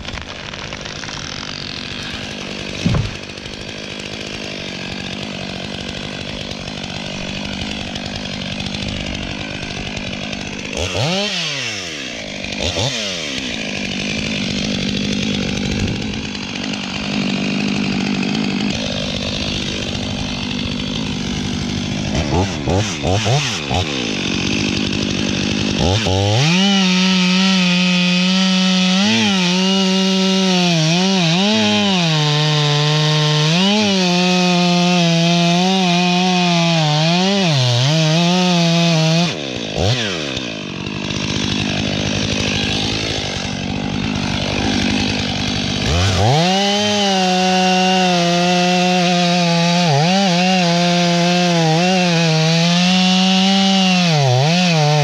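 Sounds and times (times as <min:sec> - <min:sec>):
chainsaw cutting tree trunk: 0:00.0 - 0:55.0.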